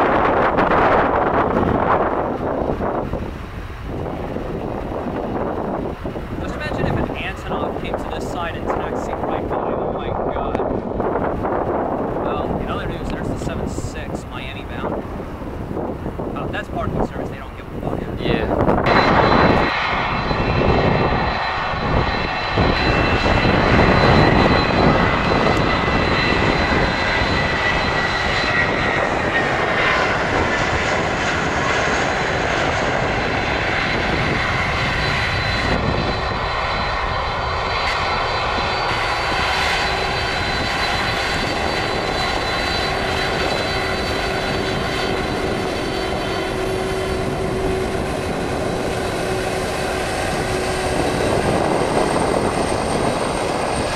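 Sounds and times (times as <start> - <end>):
jet engines rushing: 0.0 - 53.9.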